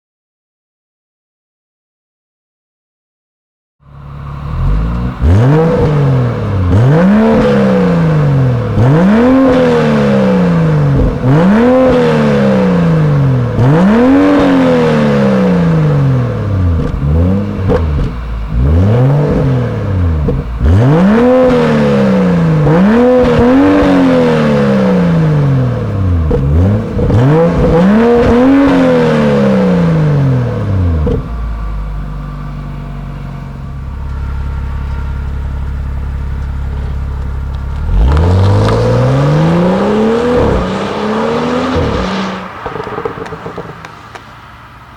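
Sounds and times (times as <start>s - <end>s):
car engine revving and idling: 3.8s - 44.9s.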